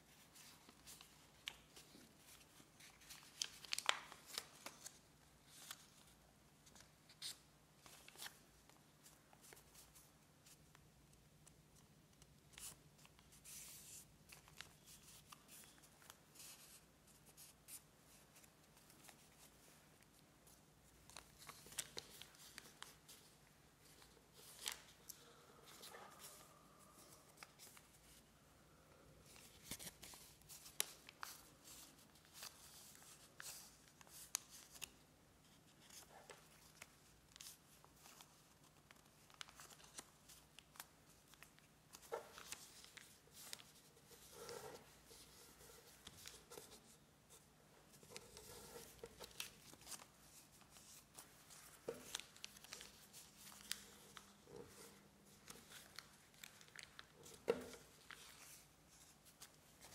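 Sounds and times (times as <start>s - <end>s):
paper rustling and crackling: 0.1s - 10.6s, 12.1s - 28.2s, 29.2s - 59.9s.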